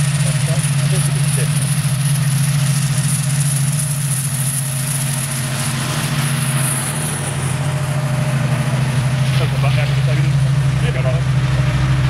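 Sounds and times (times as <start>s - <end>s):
thin high whine: 0.0s - 11.4s
truck engine driving past: 0.0s - 12.0s.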